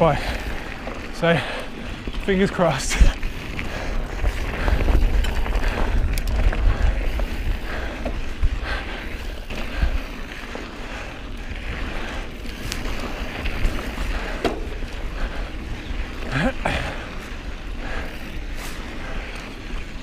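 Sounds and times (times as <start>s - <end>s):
bike rattling and clicking: 0.0s - 20.0s
bike tyres on dirt: 0.0s - 20.0s
wind buffeting microphone: 0.0s - 20.0s.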